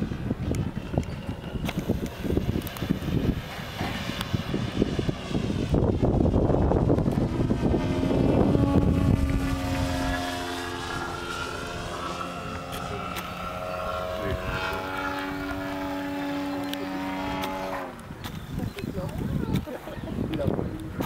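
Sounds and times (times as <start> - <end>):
model plane engine droning: 0.0 - 21.0
wind rumbling on microphone: 0.0 - 21.0.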